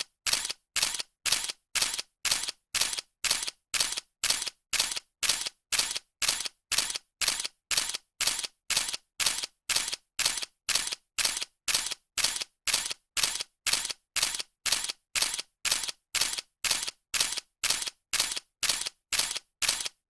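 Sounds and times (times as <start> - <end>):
camera shutter clicking: 0.3 - 20.0.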